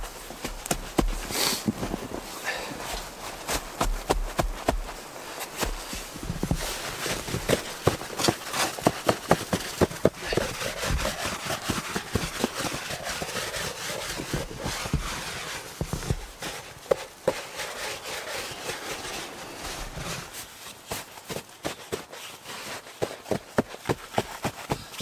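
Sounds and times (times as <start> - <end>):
rough rustle: 0.0 - 23.3
gloved hands crunching snow: 0.0 - 25.0.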